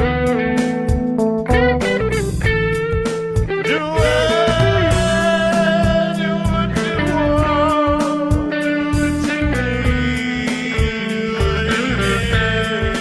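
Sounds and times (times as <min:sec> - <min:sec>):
bass: 0:00.0 - 0:13.0
drum beat: 0:00.0 - 0:13.0
electric guitar bending notes: 0:00.0 - 0:13.0.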